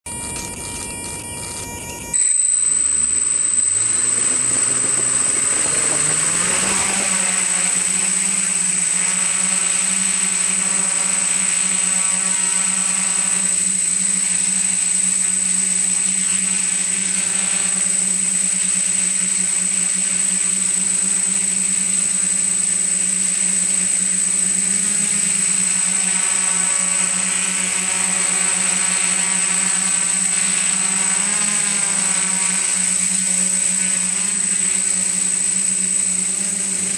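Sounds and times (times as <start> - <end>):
drone motors humming: 0.1 - 36.9
high-pitched propeller whine: 0.1 - 36.9.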